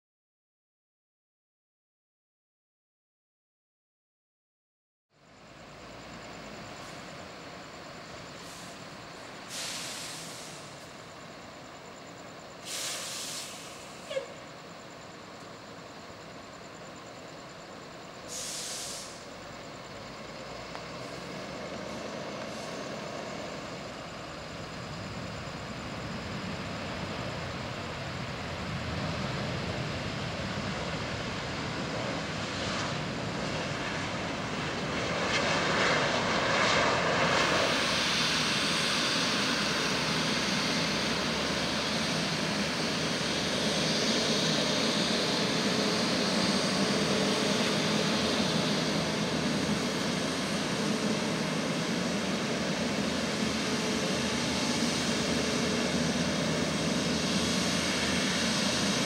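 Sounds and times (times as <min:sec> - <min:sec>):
faint high whine: 0:05.1 - 0:59.0
jet engines rumbling: 0:05.2 - 0:59.0.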